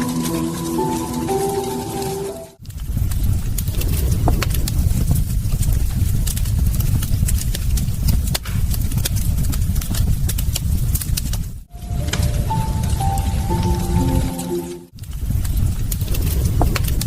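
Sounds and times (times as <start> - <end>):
low roar of flames: 0.0 - 17.0
wood fire crackling: 0.0 - 17.0.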